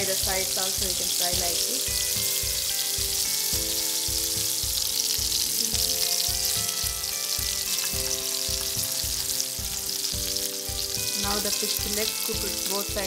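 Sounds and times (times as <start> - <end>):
background music with beat: 0.0 - 13.0
fish sizzling in hot oil: 0.0 - 13.0.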